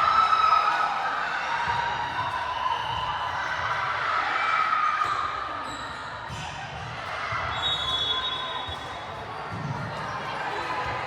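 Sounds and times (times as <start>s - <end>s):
murmur of crowd in hall: 0.0s - 11.0s.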